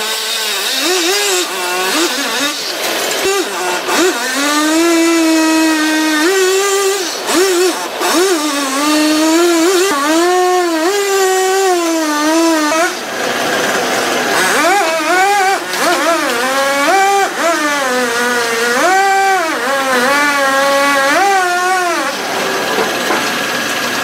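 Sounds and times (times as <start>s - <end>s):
chainsaw cutting at high revs: 0.0s - 24.0s.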